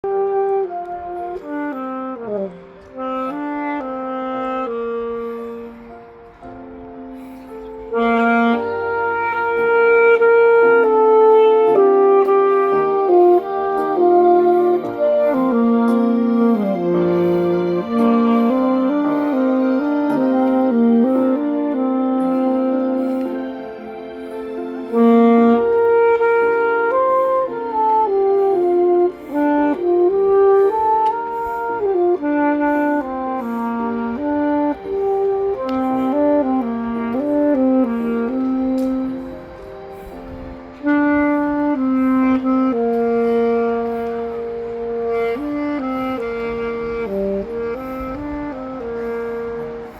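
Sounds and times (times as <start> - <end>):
lower accompaniment: 0.0 - 49.9
saxophone slow melody: 0.0 - 49.9.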